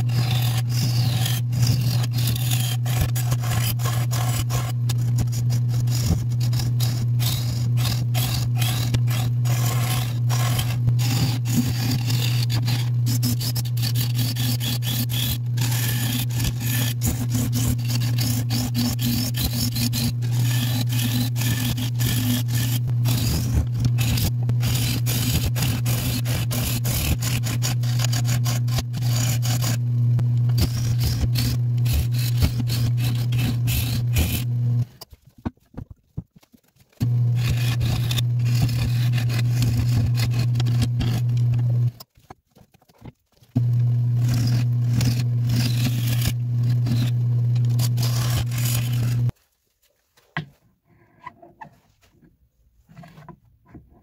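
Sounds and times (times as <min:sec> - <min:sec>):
wood lathe humming: 0:00.0 - 0:34.9, 0:37.0 - 0:41.9, 0:43.6 - 0:49.3
turning tool scraping wood: 0:00.0 - 0:49.4, 0:50.2 - 0:54.0.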